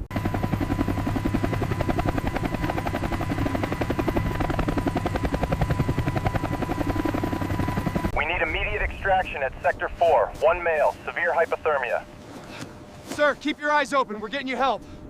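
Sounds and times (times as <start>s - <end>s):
helicopter rotor chop: 0.0s - 12.2s
thin steady whine: 2.4s - 15.0s.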